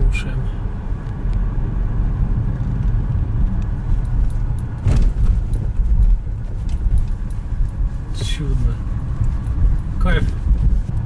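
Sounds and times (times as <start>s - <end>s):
road rumble inside car cabin: 0.0s - 11.0s.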